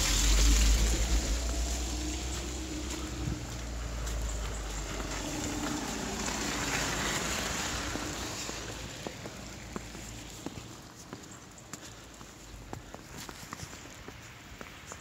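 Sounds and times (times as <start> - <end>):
tyre hiss on wet road: 0.0 - 15.0
light footsteps: 0.1 - 15.0.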